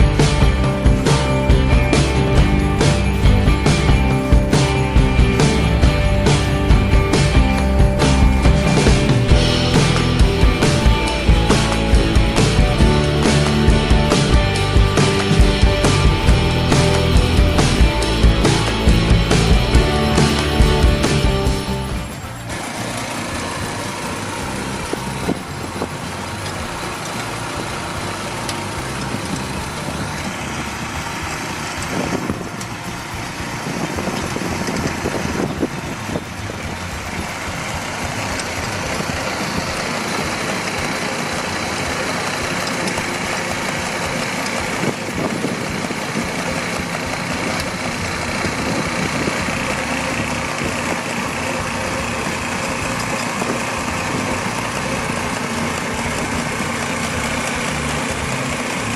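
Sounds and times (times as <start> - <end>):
farm machine engine running: 0.0 - 58.9.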